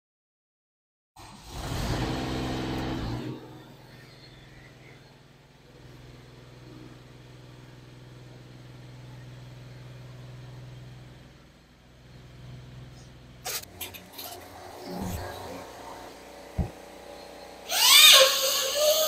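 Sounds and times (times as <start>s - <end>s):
air compressor humming: 1.5s - 19.0s.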